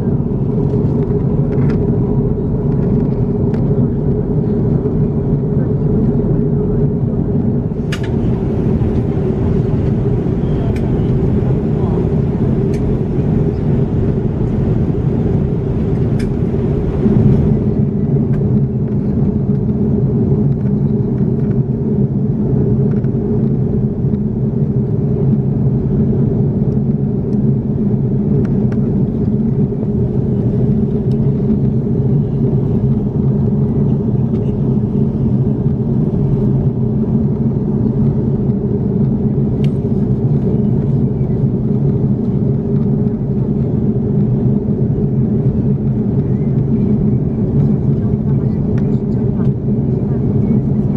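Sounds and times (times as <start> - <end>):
airplane cabin engine drone: 0.0 - 50.9
steady hum tones: 0.0 - 50.9.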